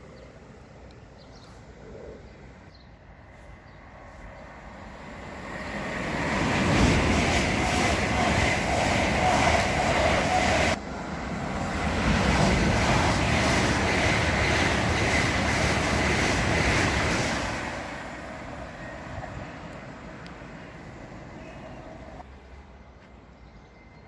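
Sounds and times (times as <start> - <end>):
train passing at speed: 2.4 - 24.0.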